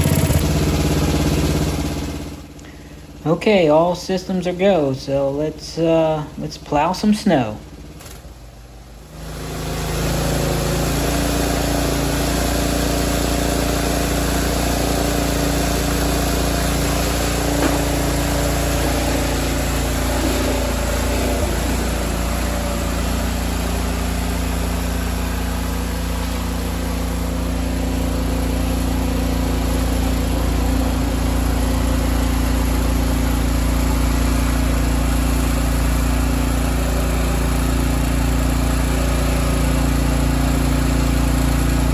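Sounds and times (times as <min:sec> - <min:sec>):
mower engine running: 0:00.0 - 0:41.9.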